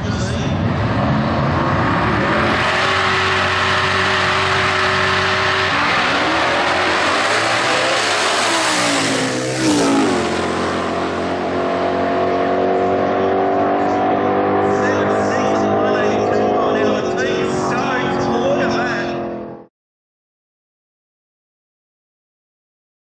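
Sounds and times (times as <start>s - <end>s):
drag car engine at full throttle: 0.0s - 19.7s.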